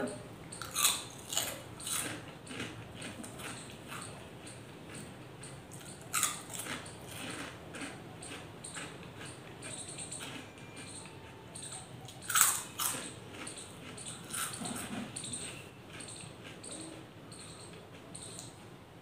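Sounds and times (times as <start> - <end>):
chewing crunchy chips: 0.5 - 18.6.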